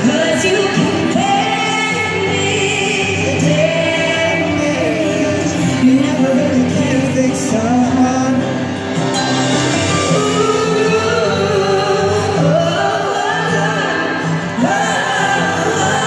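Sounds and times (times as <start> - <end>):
singing voice holding long notes: 0.0 - 16.0.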